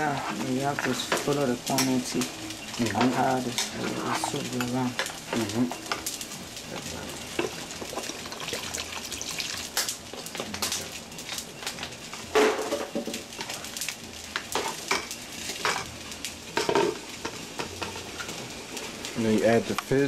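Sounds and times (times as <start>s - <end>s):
soup simmering with sizzling hiss: 0.0s - 20.0s.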